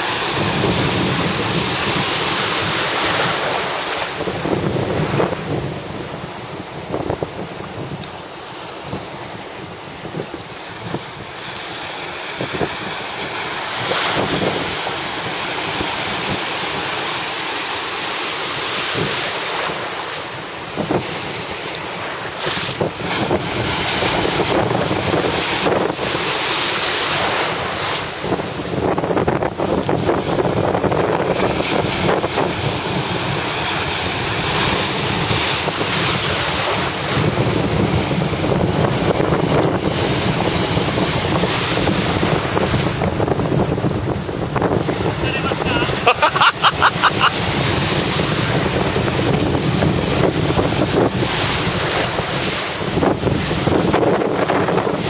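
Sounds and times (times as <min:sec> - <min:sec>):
small waves breaking: 0:00.0 - 0:55.0
wind buffeting microphone: 0:00.0 - 0:55.0.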